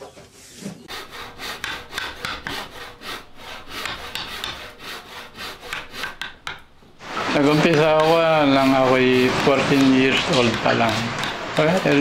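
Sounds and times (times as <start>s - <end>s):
hand tool scraping wood: 0.4s - 12.0s.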